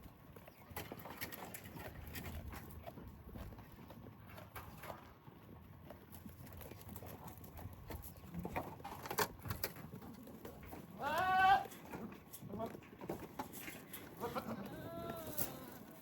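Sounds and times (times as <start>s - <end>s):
goats feeding and moving: 0.0s - 16.0s.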